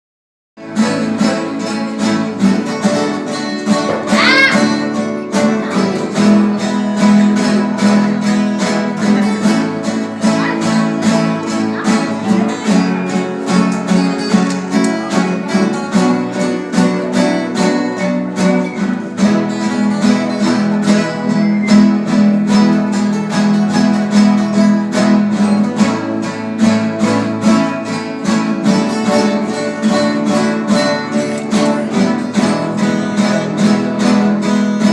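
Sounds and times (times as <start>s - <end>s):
acoustic guitars strumming: 0.6s - 34.9s.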